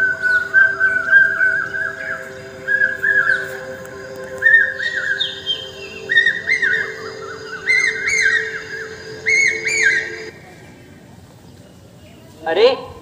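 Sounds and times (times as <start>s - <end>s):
steady background drone: 0.0s - 11.0s
recorded birdsong chirps: 0.0s - 12.6s.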